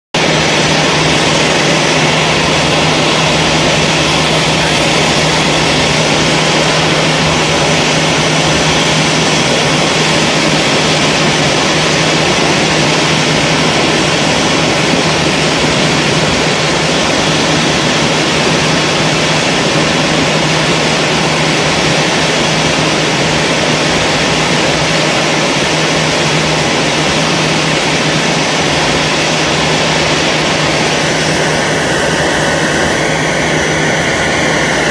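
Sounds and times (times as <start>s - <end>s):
loud mechanical drone: 0.2s - 34.9s.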